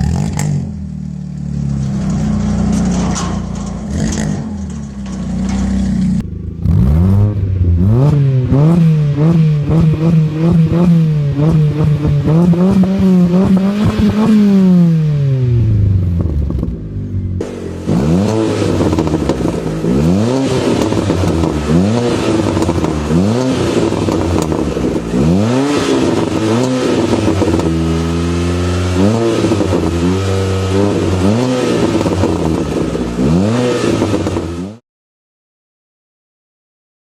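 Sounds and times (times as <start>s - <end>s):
car engine revving: 0.0s - 34.8s.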